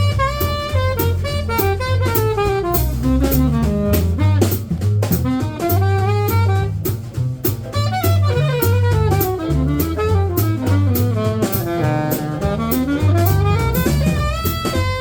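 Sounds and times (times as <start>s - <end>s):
alto saxophone fast runs: 0.0s - 15.0s.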